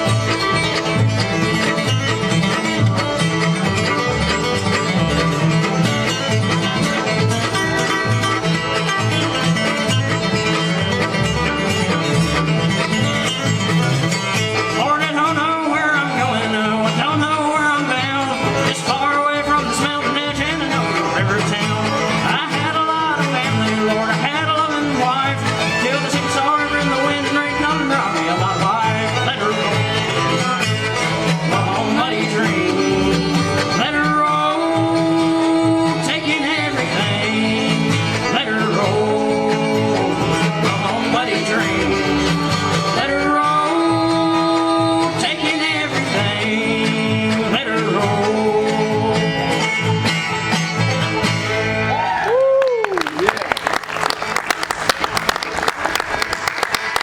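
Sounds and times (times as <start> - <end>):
bluegrass band playing: 0.0 - 57.0.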